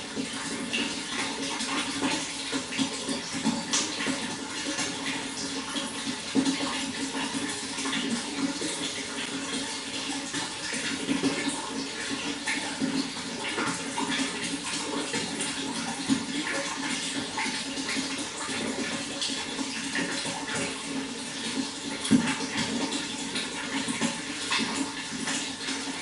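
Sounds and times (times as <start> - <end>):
water splashing and trickling: 0.0 - 26.0.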